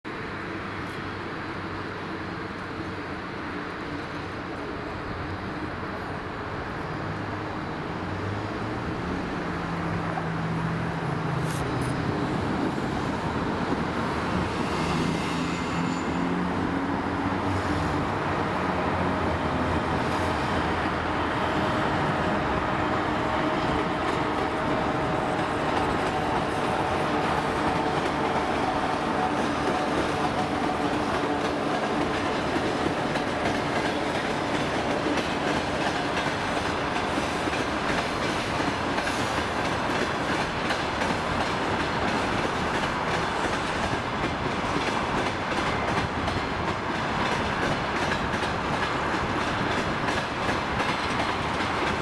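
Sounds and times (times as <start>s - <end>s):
diesel locomotive engine: 0.1s - 52.0s
train rolling noise: 0.1s - 52.0s.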